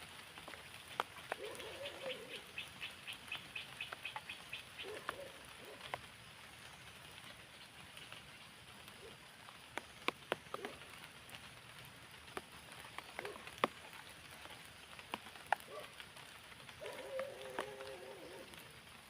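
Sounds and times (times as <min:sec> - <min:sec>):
light rain falling: 0:00.0 - 0:19.0
raindrops ticking on surfaces: 0:00.0 - 0:19.0.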